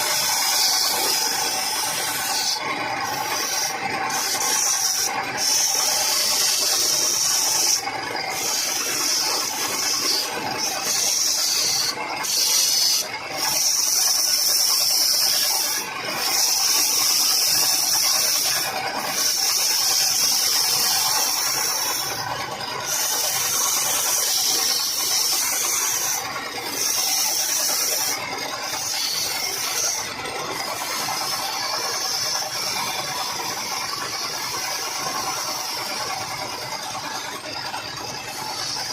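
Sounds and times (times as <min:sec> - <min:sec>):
wood lathe tool scraping wood: 0:00.0 - 0:38.9.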